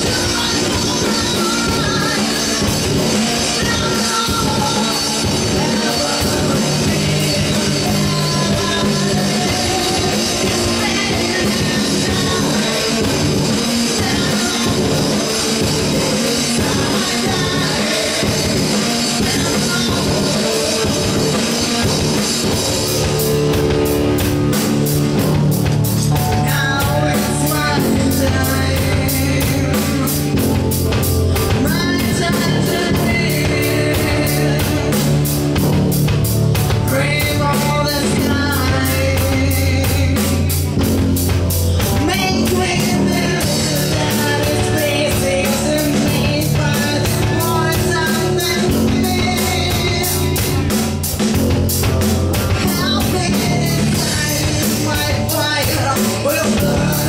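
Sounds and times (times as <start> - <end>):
drum kit: 0.0 - 57.0
live rock band playing: 0.0 - 57.0
person singing: 0.0 - 57.0.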